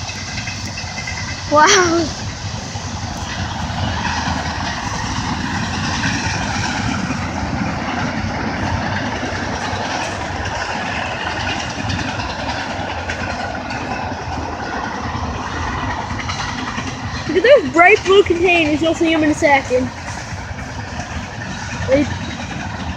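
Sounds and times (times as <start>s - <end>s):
rail joint clicks: 0.0s - 22.9s
train wheels rumbling on rails: 0.0s - 22.9s.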